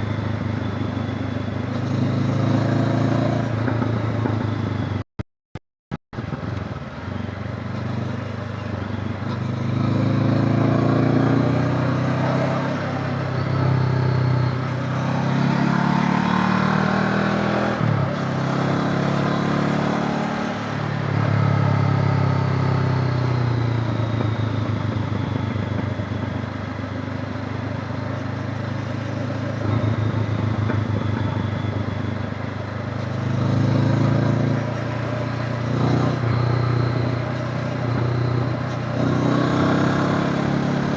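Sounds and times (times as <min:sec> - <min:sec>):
motorcycle engine revving: 0:01.7 - 0:04.8, 0:09.2 - 0:40.9.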